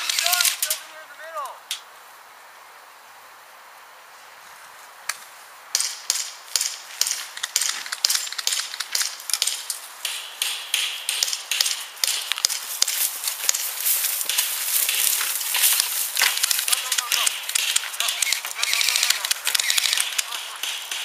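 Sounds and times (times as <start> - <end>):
footsteps through dry grass: 4.0 - 21.0.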